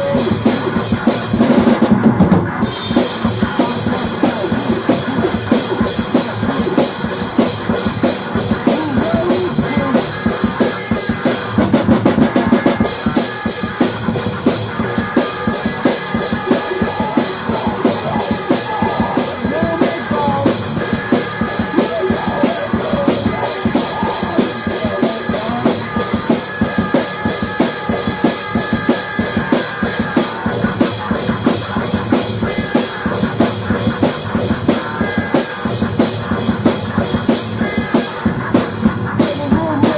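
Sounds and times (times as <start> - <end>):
rock drum beat: 0.0 - 39.9.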